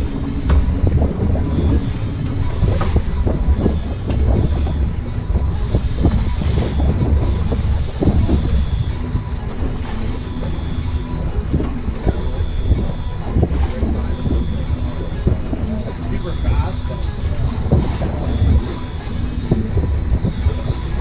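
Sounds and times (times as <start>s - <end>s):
boat motor rumble: 0.0s - 21.0s
wind: 0.0s - 21.0s.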